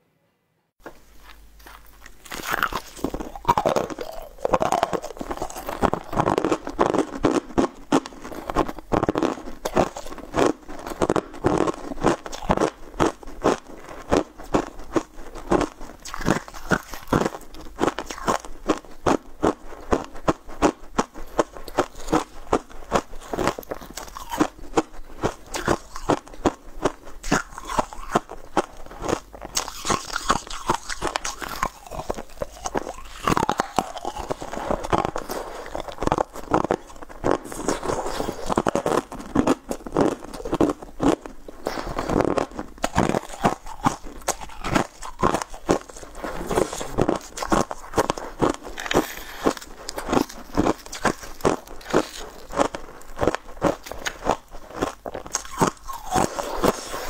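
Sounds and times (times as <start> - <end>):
person crunching cookies: 1.0 - 57.0.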